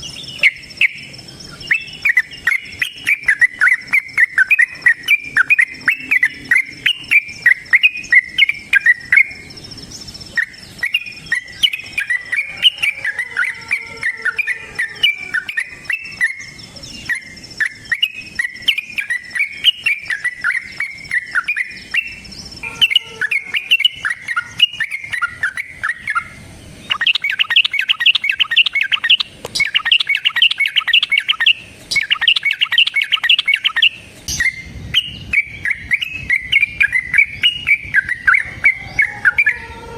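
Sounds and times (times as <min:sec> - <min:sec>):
bird singing chattering song: 0:00.0 - 0:39.8.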